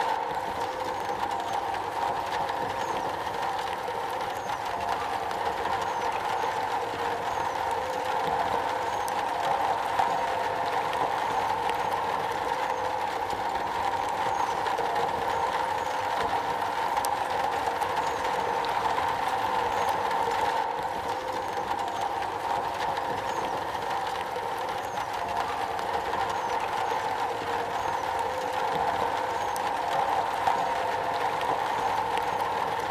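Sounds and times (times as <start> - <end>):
rain drumming on a metal roof: 0.0 - 32.9.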